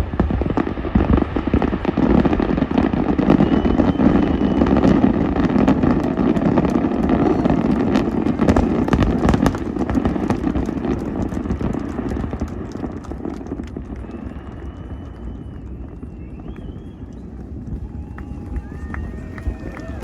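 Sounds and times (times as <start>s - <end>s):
fireworks crackling and booming: 0.0s - 20.0s
heavy rolling rumble: 0.0s - 20.0s.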